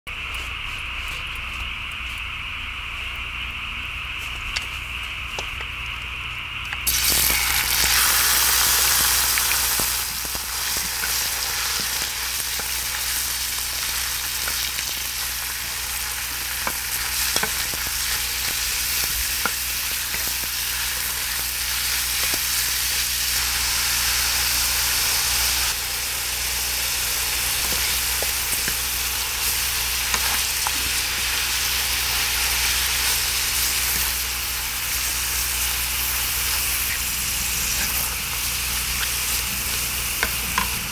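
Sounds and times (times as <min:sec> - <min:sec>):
meat sizzling on hot iron: 0:06.8 - 0:40.9.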